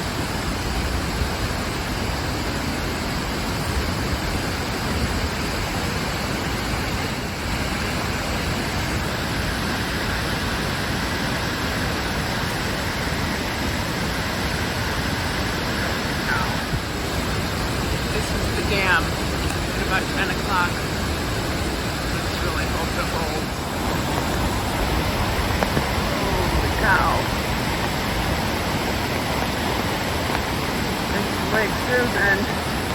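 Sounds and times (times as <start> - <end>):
water rushing over dam: 0.0 - 32.9.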